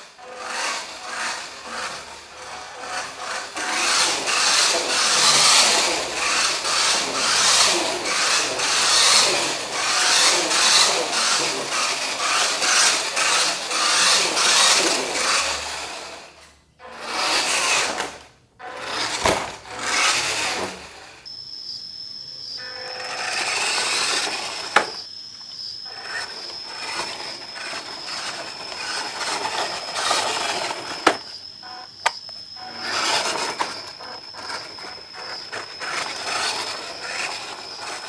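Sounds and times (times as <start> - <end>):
toy truck electric motor: 0.0 - 21.4, 22.5 - 38.0.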